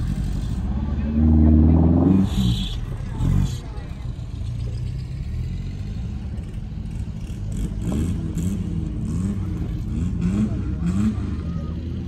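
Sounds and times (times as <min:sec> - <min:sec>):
dune buggy engine revving: 0:00.0 - 0:12.0.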